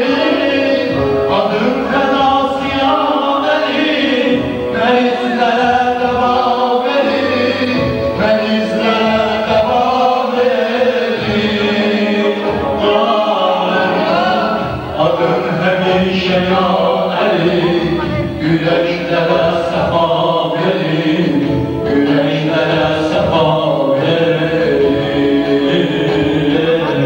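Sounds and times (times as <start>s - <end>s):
backing music: 0.0s - 27.0s
men singing: 0.0s - 27.0s.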